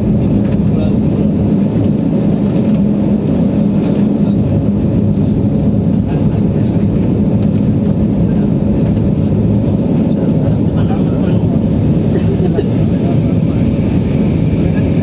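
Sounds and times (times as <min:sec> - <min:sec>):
airliner cabin engine drone: 0:00.0 - 0:15.0
steady low hums: 0:00.0 - 0:15.0.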